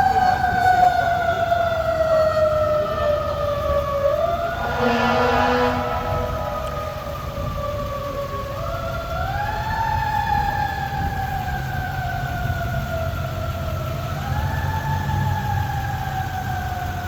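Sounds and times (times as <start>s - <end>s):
emergency siren wailing: 0.0s - 17.0s
low traffic rumble: 0.0s - 17.0s.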